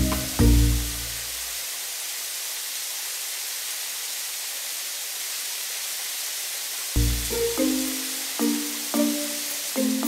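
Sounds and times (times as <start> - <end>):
water spraying from hose: 0.0 - 10.0.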